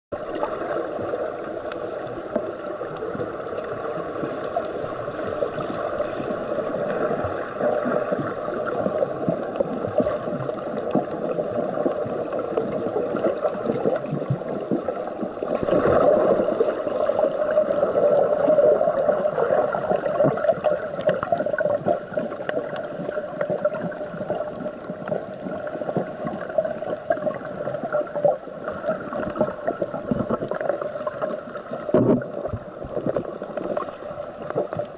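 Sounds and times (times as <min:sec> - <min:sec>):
muffled underwater rush: 0:00.1 - 0:34.9.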